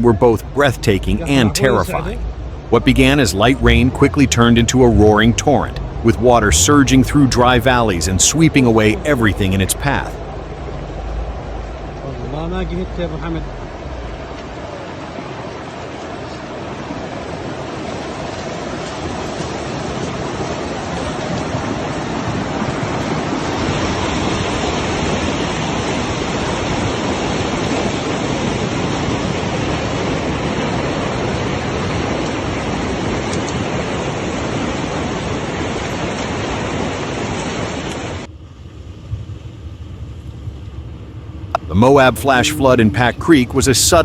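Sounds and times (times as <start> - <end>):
floodwater rushing: 0.0 - 44.0.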